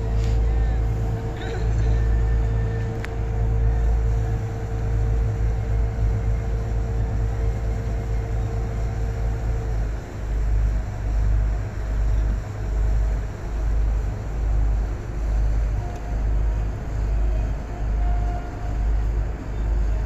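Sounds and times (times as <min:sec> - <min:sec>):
boat engine droning: 0:00.0 - 0:20.0
faint hum: 0:00.0 - 0:20.0.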